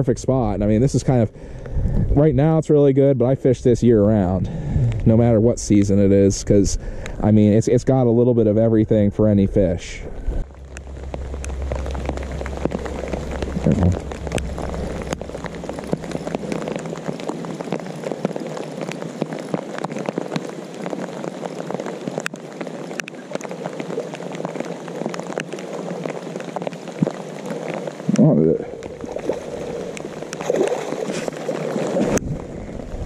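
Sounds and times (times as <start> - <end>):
low hum: 0.0 - 20.3, 25.6 - 33.0
rain falling on a lake: 0.0 - 33.0.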